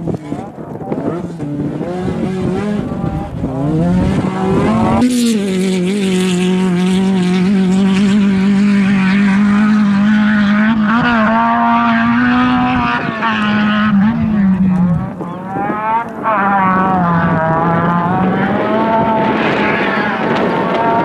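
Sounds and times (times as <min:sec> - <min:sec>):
rally car engine revving hard: 0:00.0 - 0:21.0.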